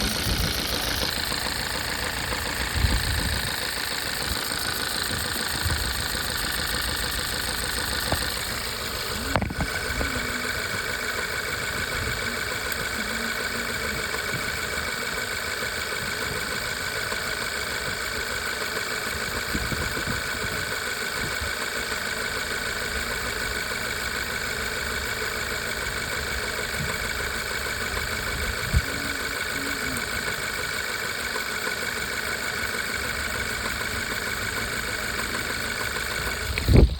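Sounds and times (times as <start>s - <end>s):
car engine idling with misfire: 0.0s - 36.9s
steady high whine: 0.0s - 36.9s.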